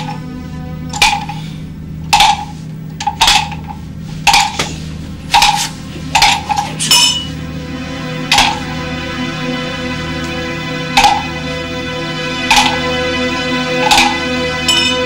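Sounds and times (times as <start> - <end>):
sharp metallic strikes ringing: 0.0 - 3.7, 4.3 - 15.0
steady low drone: 0.0 - 15.0.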